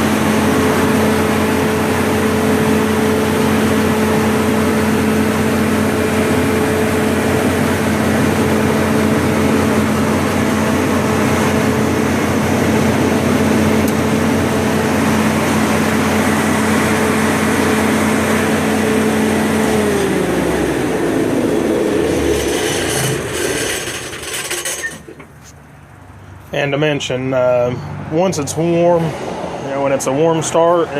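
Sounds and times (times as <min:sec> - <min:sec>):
engine spinning down: 0:00.0 - 0:25.2
generator running: 0:00.0 - 0:27.7.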